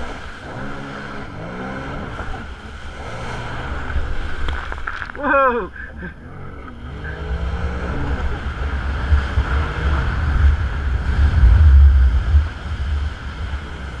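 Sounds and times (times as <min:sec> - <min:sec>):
jet ski engine running: 0:00.0 - 0:14.0
water rushing: 0:00.0 - 0:14.0
wind buffeting microphone: 0:00.0 - 0:14.0.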